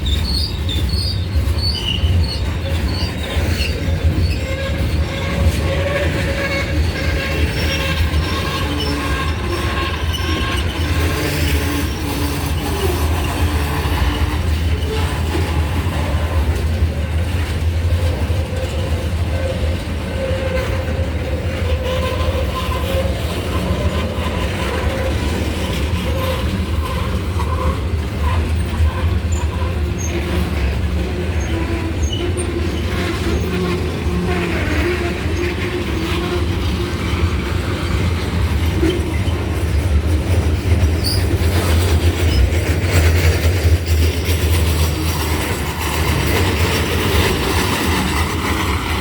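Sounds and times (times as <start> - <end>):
freight train rumbling: 0.0 - 49.0
train wheels squealing: 0.0 - 49.0.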